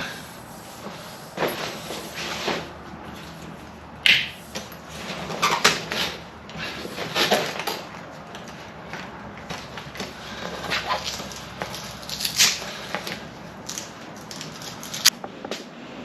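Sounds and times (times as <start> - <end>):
canvas rustling: 0.0 - 15.1.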